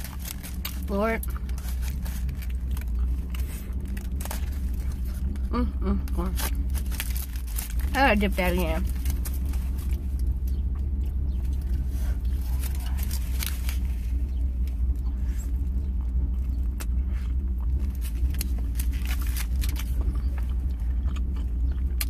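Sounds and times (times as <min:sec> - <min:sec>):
chewing and mouth noises: 0:00.0 - 0:22.0
steady low rumble: 0:00.0 - 0:22.0.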